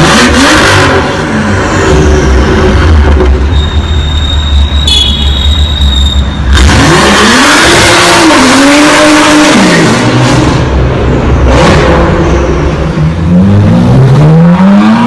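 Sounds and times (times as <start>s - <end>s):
car engine rumbling and revving: 0.0s - 15.0s.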